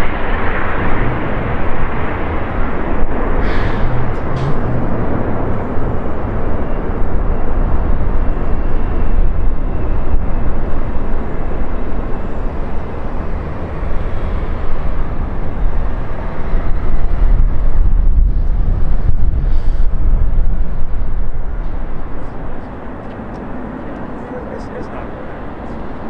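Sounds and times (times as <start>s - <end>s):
jet airliner landing rumble: 0.0s - 26.0s.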